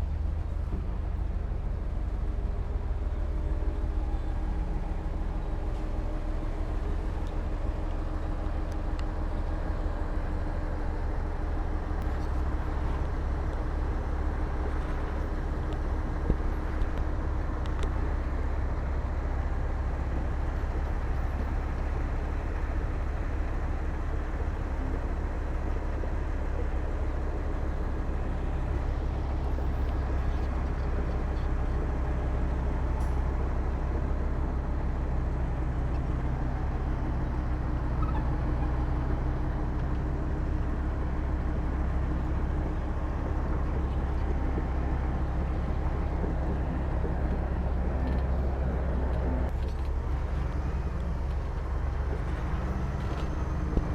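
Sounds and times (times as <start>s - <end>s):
heavy diesel machinery engine drone: 0.0s - 53.9s.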